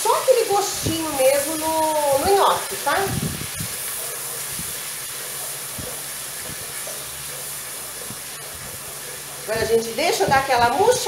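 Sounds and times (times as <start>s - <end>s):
onion and garlic sizzling: 0.0s - 11.0s.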